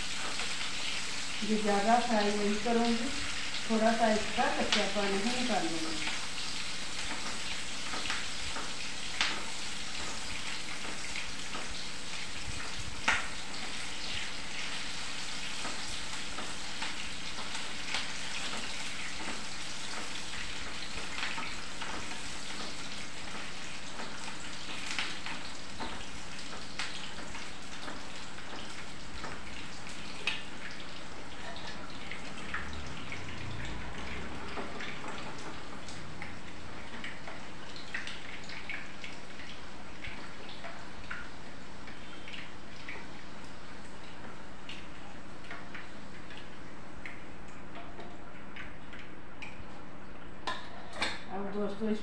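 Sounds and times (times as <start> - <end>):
onions sizzling in oil: 0.0 - 47.2.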